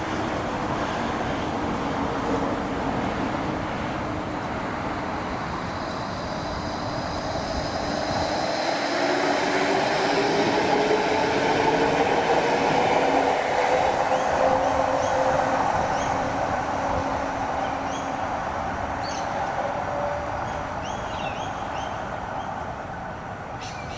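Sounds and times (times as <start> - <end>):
electric tram running: 0.0 - 23.9
tram motor whine rising: 0.6 - 20.8.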